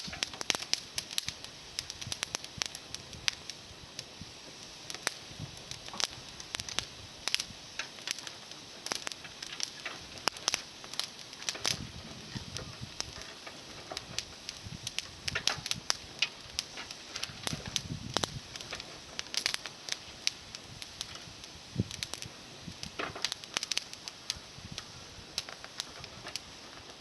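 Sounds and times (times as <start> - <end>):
twig fire crackling: 0.0 - 27.0.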